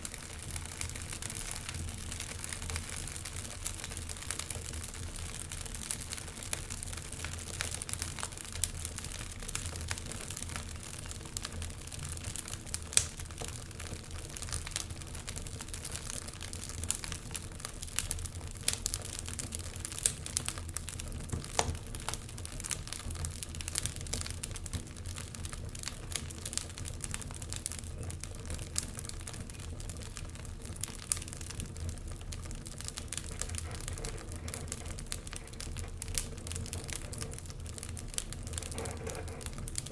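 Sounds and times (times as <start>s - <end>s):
burning logs popping: 0.0s - 39.9s
fire crackling: 0.0s - 39.9s
low rumble of flames: 0.0s - 39.9s.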